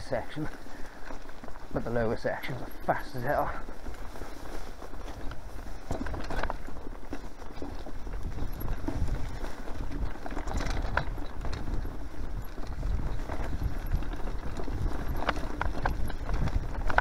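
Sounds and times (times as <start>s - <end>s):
mountain bike rattling and thudding: 0.0s - 17.0s
wind and tyre rumble: 0.0s - 17.0s.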